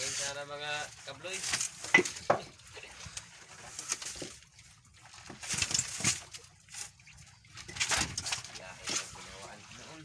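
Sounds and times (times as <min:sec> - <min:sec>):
water splashing against boat: 0:00.0 - 0:10.0.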